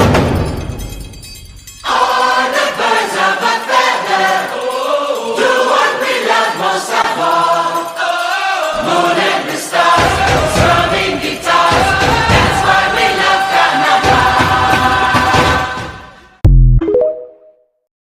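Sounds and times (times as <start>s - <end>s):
choir singing held notes: 1.8s - 16.4s.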